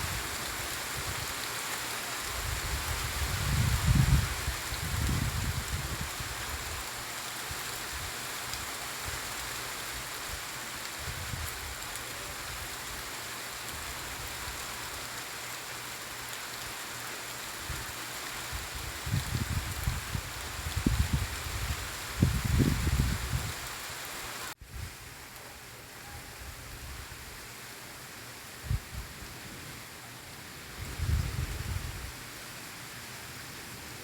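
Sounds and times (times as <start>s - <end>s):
gentle rain falling: 0.0s - 34.0s.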